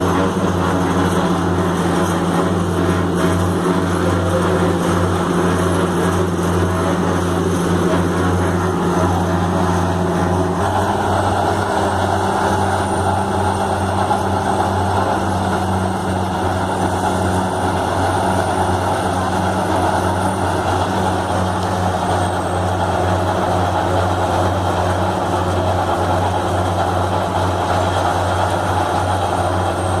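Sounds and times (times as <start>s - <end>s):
heavy machinery engine drone: 0.0s - 30.0s.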